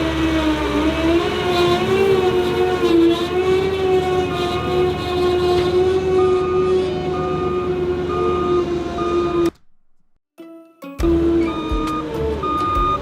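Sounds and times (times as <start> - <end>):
vehicle engine whining: 0.0 - 10.2, 11.0 - 13.0.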